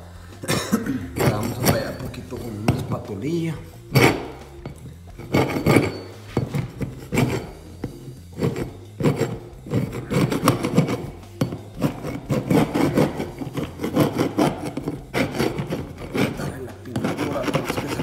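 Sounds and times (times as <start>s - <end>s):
putty knife scraping drywall: 1.1s - 3.1s, 3.9s - 18.0s.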